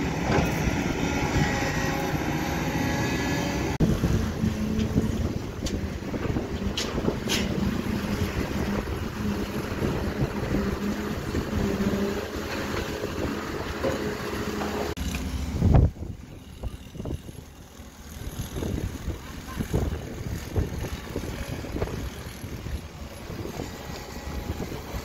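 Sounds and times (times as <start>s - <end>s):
concrete pump engine humming: 0.0s - 25.0s.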